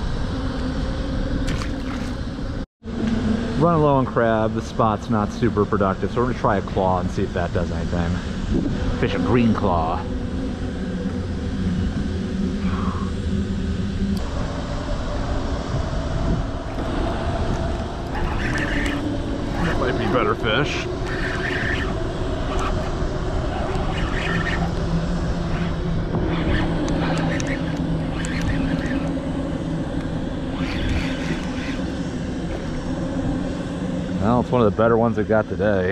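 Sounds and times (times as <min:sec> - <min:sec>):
low rumble: 0:00.0 - 0:35.8
engine drone: 0:00.0 - 0:35.9.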